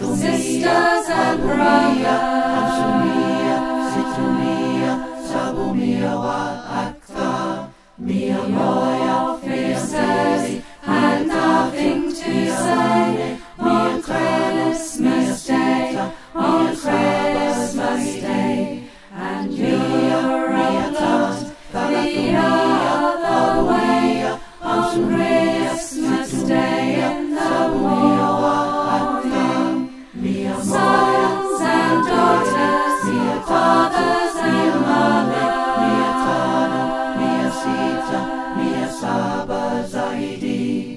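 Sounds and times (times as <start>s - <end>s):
choir singing a cappella: 0.0s - 40.9s.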